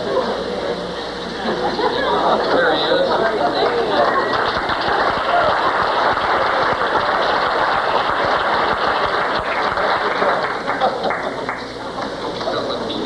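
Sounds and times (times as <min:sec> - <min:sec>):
audience crowd noise: 0:00.0 - 0:13.0.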